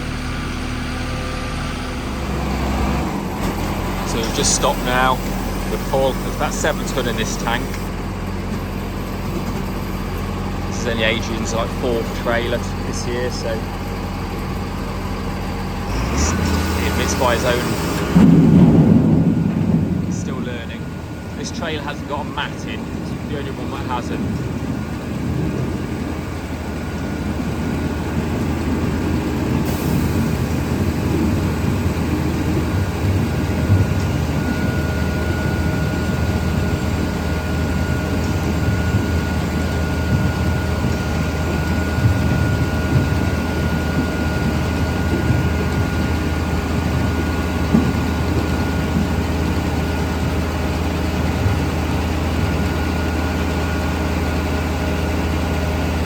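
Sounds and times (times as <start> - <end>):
harvester engine drone: 0.0 - 56.0
thin steady whine: 3.2 - 56.0.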